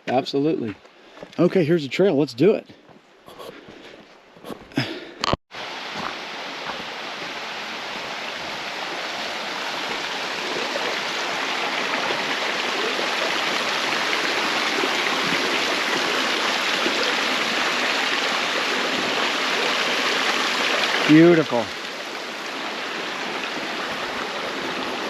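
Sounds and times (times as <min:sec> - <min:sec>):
creek water rushing: 0:04.8 - 0:25.0.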